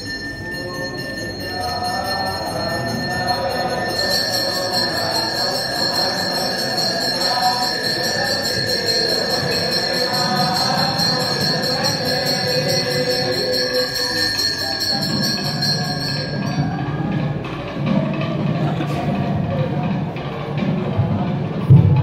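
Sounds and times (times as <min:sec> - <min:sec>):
steady ringing tone: 0:00.0 - 0:18.2
temple bells jangling: 0:00.0 - 0:19.3.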